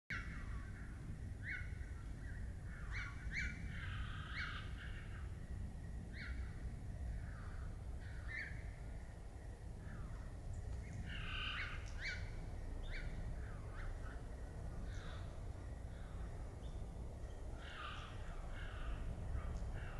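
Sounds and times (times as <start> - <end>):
small songbird chirping: 0.1 - 19.9.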